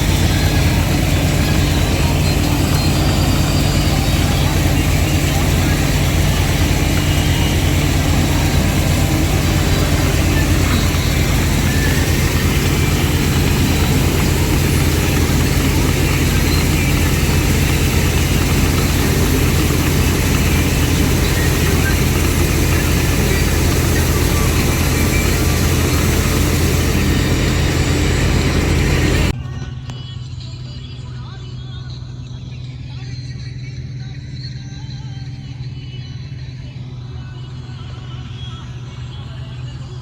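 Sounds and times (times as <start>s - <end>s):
harvester engine humming: 0.0s - 40.0s.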